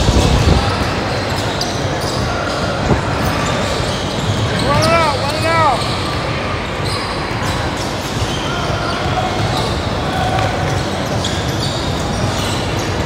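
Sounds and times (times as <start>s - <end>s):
sneakers squeaking on court: 0.0s - 13.0s
spectators talking: 0.0s - 13.0s.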